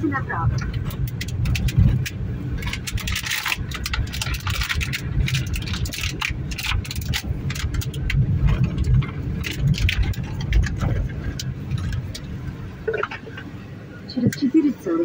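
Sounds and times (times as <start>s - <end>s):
car engine and road rumble: 0.0s - 15.0s
clattering knocks and rattles: 0.4s - 13.5s.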